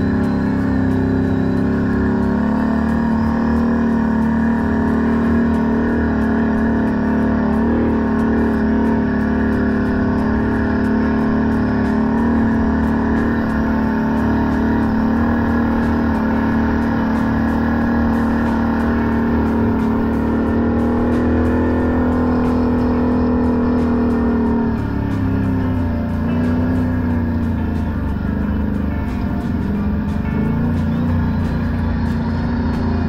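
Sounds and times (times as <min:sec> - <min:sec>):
quad bike engine running: 0:00.0 - 0:33.0.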